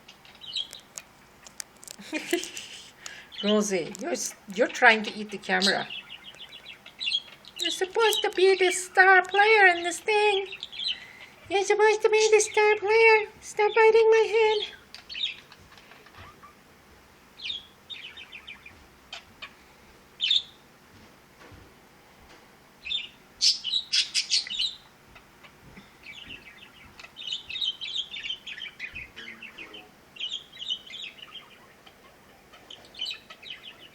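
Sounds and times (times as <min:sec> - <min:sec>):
budgerigars chirping and chattering: 0:00.0 - 0:01.0, 0:02.0 - 0:16.6, 0:17.4 - 0:20.6, 0:22.8 - 0:33.9.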